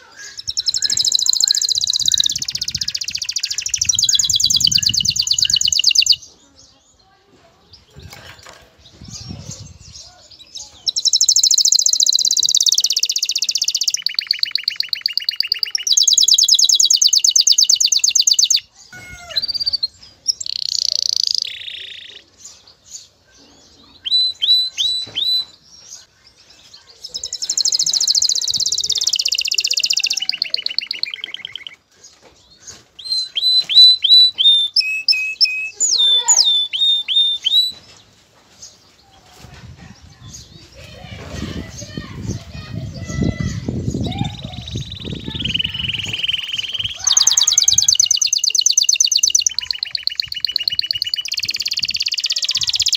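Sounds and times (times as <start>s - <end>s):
canary singing trills: 0.0s - 38.0s, 38.6s - 52.9s.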